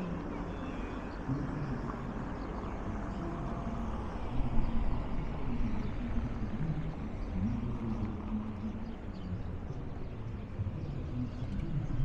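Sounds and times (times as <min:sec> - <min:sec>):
faint distant voices: 0:00.0 - 0:12.0
low street rumble: 0:00.0 - 0:12.0.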